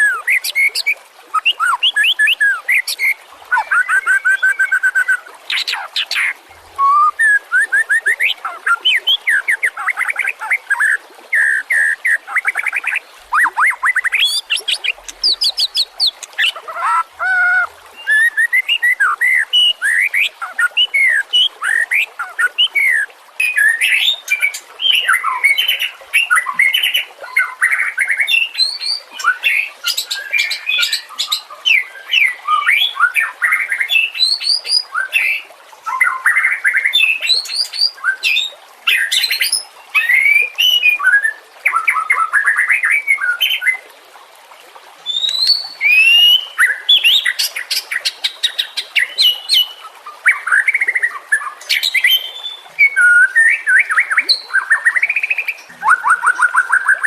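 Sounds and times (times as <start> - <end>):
bird singing whistled song: 0.0 - 43.7, 45.1 - 47.4, 51.4 - 57.0.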